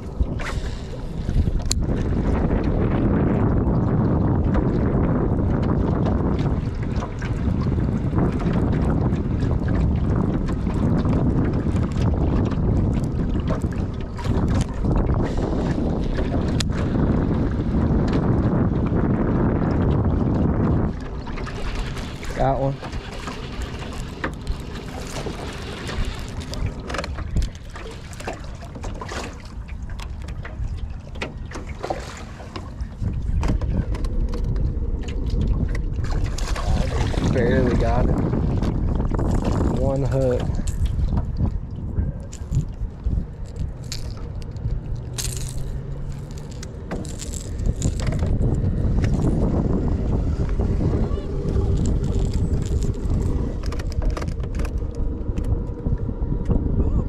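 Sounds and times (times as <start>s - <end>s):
water lapping against boat hull: 0.0s - 57.0s
wind buffeting microphone: 0.0s - 57.0s
small clicks and splashes: 5.4s - 16.9s, 19.6s - 49.4s, 51.3s - 55.8s.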